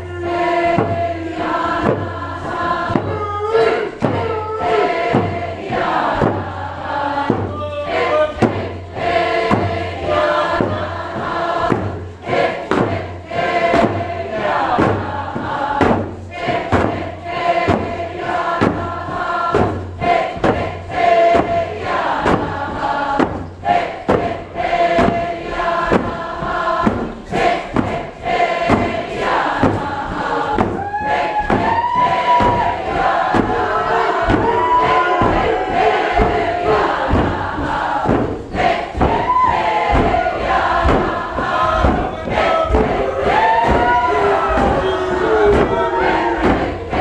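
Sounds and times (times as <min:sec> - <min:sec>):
group of voices singing: 0:00.0 - 0:47.0
steady drum beat: 0:00.0 - 0:47.0.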